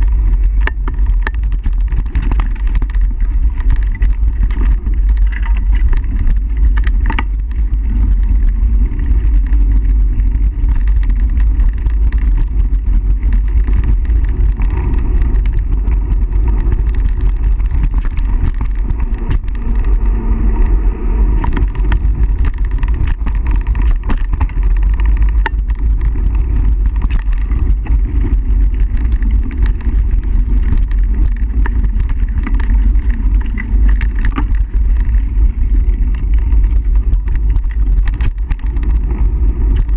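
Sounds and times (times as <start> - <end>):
bike rattling over bumps: 0.0 - 39.9
bike tyres on dirt: 0.0 - 39.9
wind rumble on microphone: 0.0 - 39.9.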